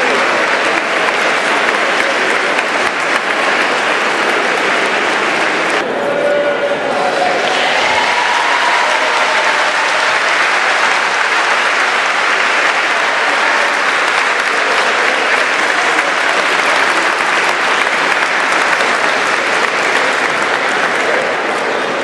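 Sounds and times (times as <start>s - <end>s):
large audience applauding: 0.0s - 5.8s, 6.9s - 22.0s.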